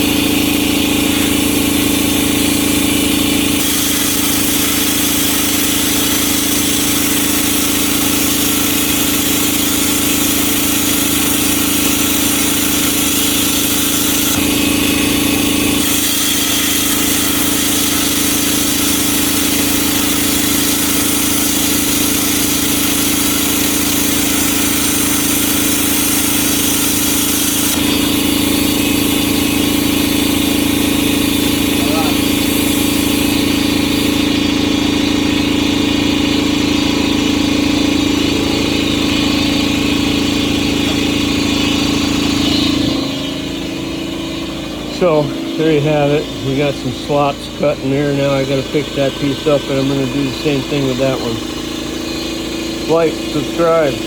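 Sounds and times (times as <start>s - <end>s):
plasma cutter arc hissing: 0.0s - 35.8s, 37.5s - 54.0s
low machine hum: 0.0s - 54.0s.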